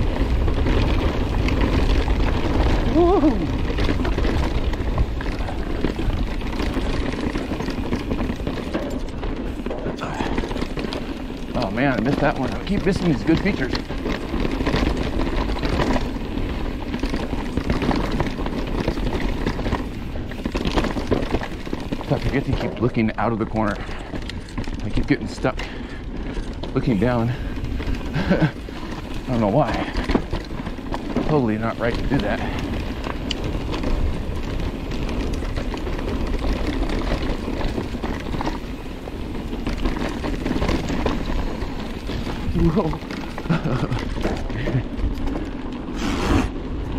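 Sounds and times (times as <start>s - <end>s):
bike clicking and rattling: 0.0s - 46.9s
bike tyre noise: 0.0s - 46.9s
wind rumbling on microphone: 0.0s - 46.9s.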